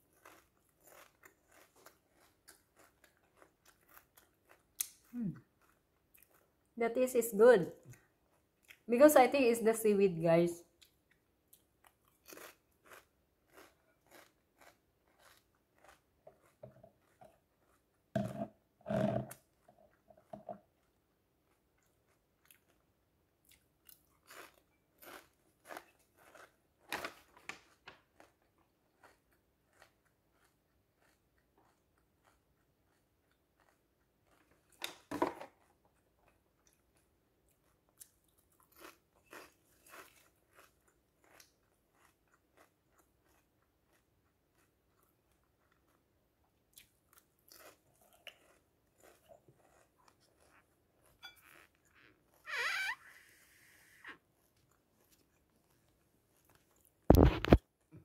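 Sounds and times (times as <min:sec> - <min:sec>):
crunching and chewing snack: 0:00.0 - 0:06.8, 0:10.8 - 0:52.4, 0:54.1 - 0:58.0.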